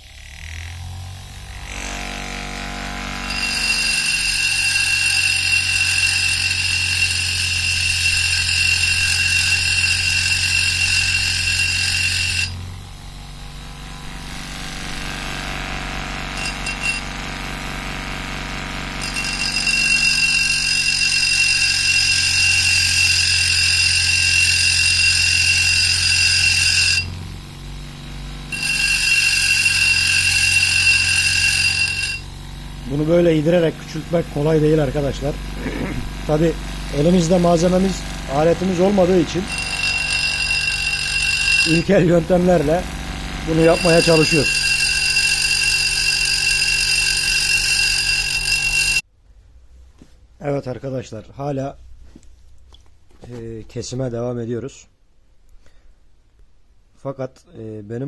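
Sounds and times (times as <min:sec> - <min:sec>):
hand-held grinder whining: 0:00.0 - 0:49.1.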